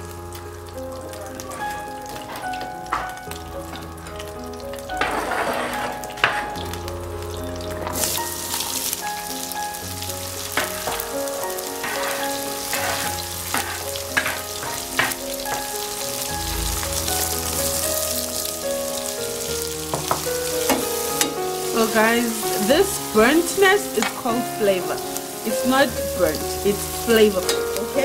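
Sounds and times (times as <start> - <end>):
background music: 0.0 - 28.0
onion sizzling in oil: 0.0 - 28.0
sharp crackles: 0.0 - 28.0.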